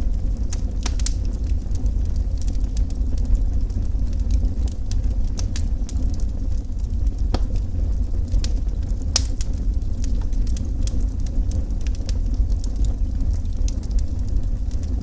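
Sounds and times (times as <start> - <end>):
fire crackles and pops: 0.0 - 15.0
wood fire roaring: 0.0 - 15.0.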